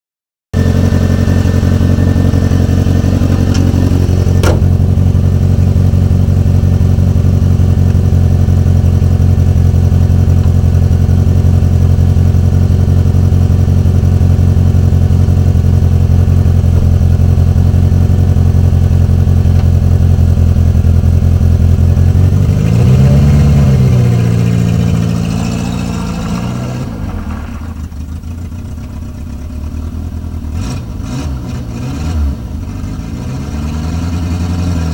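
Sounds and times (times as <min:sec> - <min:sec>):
car engine idling and revving: 0:00.6 - 0:34.9.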